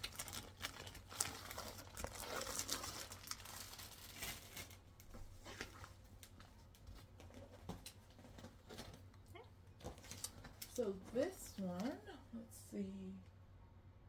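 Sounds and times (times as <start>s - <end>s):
plastic wrapping crinkling: 0.0s - 12.1s.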